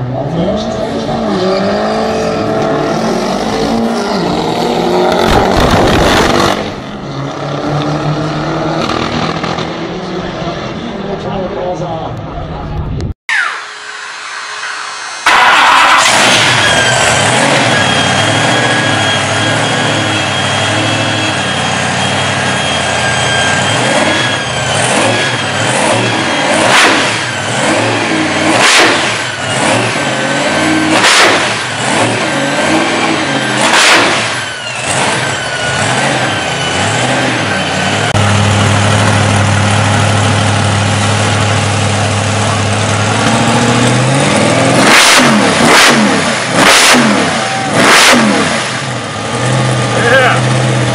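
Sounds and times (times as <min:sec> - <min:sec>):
car engines revving and idling: 0:00.0 - 0:50.9
supercharger whine: 0:00.0 - 0:50.9.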